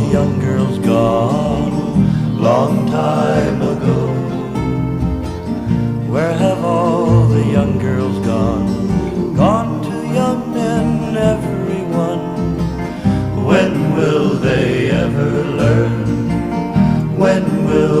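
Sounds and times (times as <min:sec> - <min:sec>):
folk song with plucked guitar: 0:00.0 - 0:18.0.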